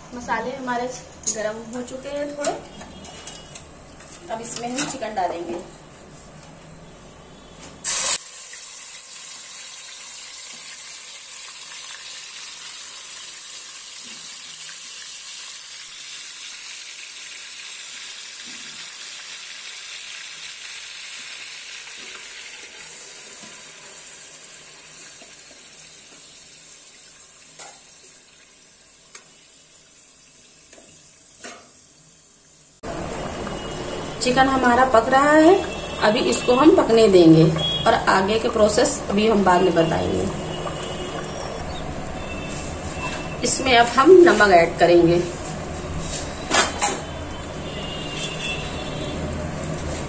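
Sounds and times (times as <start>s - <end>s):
chicken frying in hot oil: 7.8s - 50.0s.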